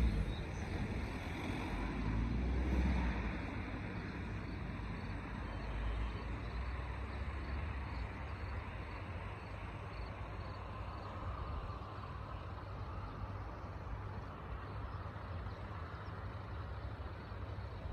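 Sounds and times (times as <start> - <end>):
outdoor background noise: 0.0 - 17.9.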